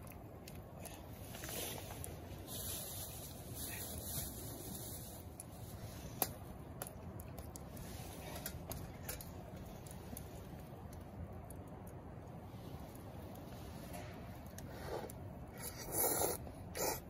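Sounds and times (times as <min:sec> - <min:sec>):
fire popping: 0:00.0 - 0:17.0
wood fire crackling: 0:00.0 - 0:17.0.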